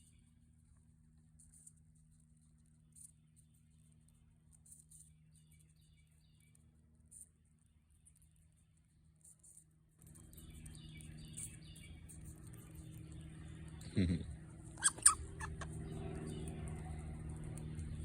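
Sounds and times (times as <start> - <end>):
squirrel squeaks and cries: 0.0 - 18.0
steady low hum: 0.0 - 18.0.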